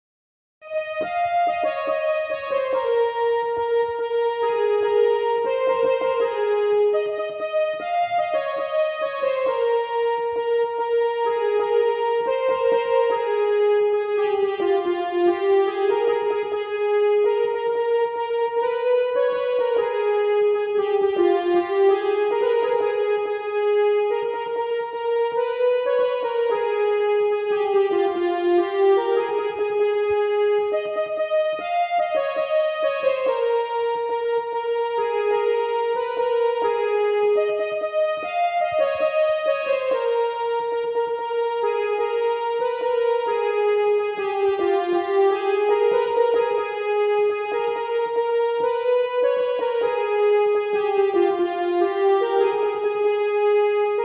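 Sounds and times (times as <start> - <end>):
electronic keyboard melody: 0.6 - 54.0.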